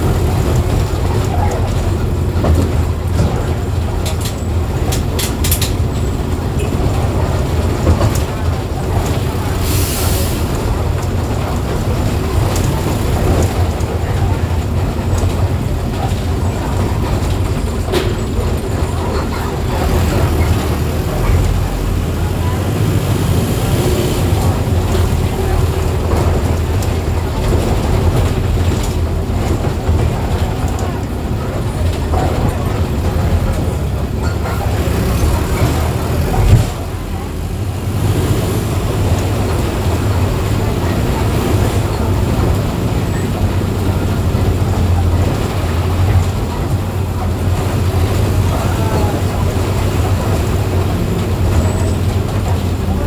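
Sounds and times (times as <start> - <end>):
bus diesel engine running: 0.0 - 53.0
rattles and clicks: 0.0 - 53.0.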